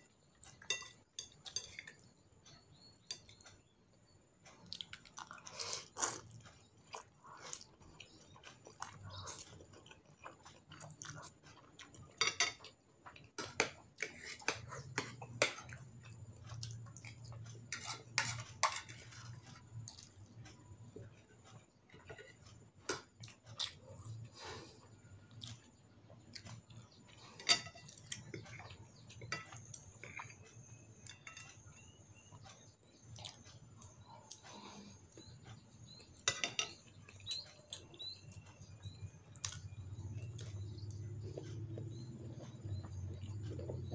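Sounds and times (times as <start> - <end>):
chewing: 4.4 - 43.9.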